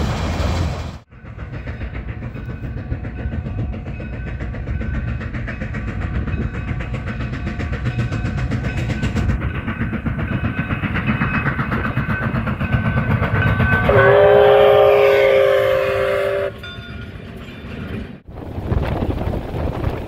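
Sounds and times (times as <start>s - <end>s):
steam locomotive running: 0.0s - 20.0s.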